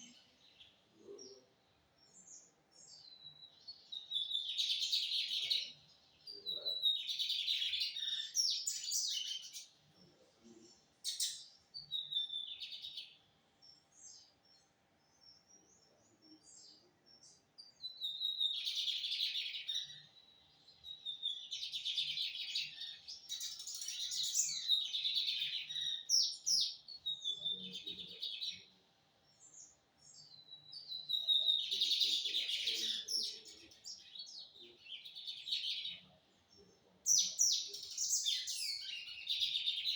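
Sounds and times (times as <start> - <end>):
bird high-pitched chirping song: 2.0 - 9.7, 11.0 - 39.9.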